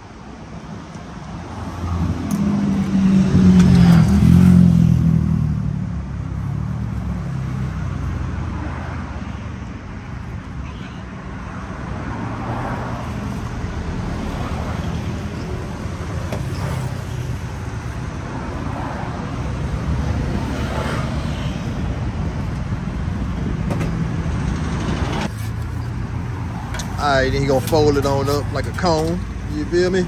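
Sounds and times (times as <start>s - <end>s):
road traffic noise: 0.0s - 30.0s
vehicles passing: 0.0s - 30.0s.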